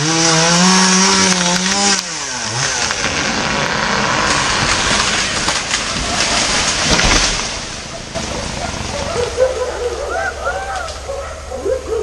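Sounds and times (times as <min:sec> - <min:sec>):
chainsaw engine revving: 0:00.0 - 0:09.8
tree falling through branches: 0:00.0 - 0:11.5.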